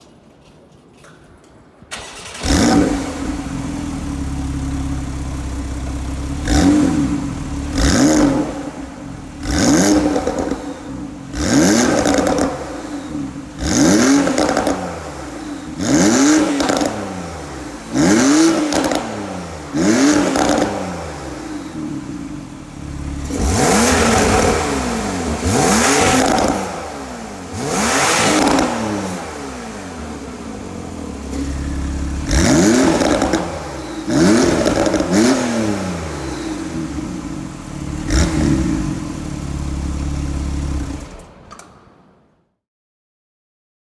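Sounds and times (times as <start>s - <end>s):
car engine idling: 1.9s - 18.0s, 18.8s - 41.4s
car engine revving: 1.9s - 41.4s
sports car engine starting: 1.9s - 41.9s.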